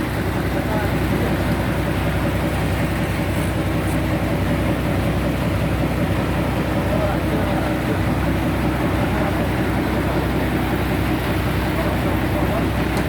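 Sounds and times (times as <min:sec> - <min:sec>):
sawmill machinery droning: 0:00.0 - 0:13.0.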